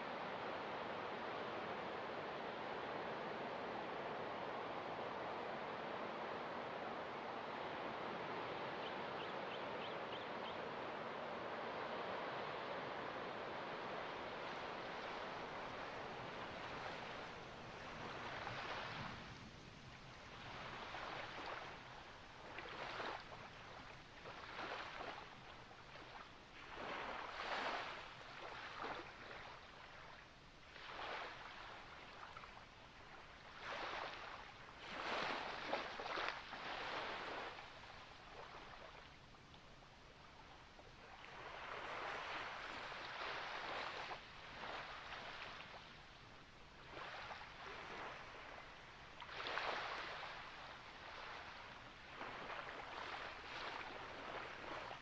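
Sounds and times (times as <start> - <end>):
small waves lapping: 0.0 - 55.0.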